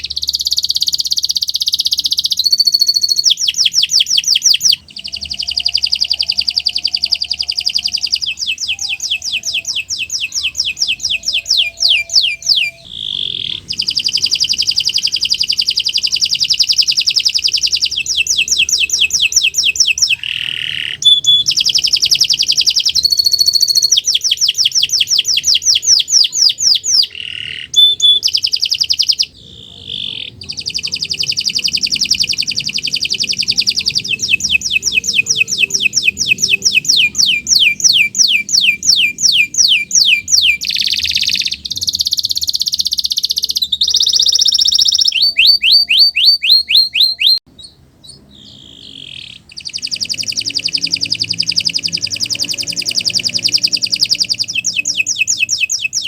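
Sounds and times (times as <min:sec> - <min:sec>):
canary singing rapid trills: 0:00.0 - 0:56.0.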